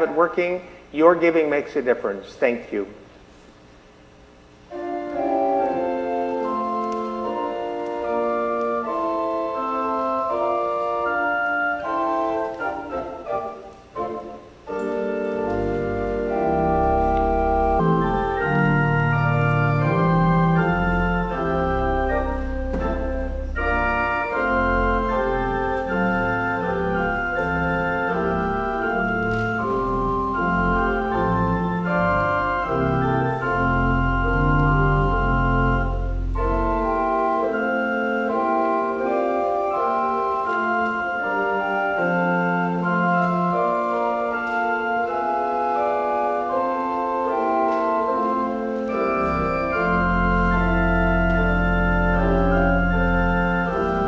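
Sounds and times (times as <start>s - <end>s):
organ playing held chords: 4.1s - 54.0s
deep organ pedal bass notes: 4.6s - 54.0s.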